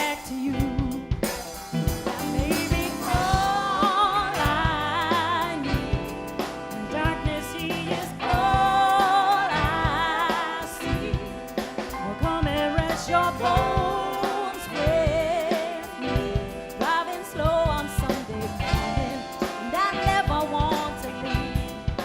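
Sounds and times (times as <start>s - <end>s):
band playing slow soul song: 0.0s - 22.0s.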